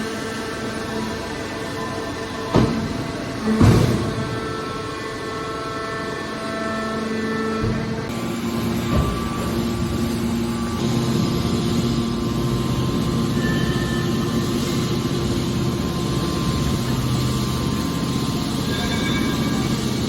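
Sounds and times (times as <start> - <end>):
scrap metal baler droning: 1.6 - 20.0.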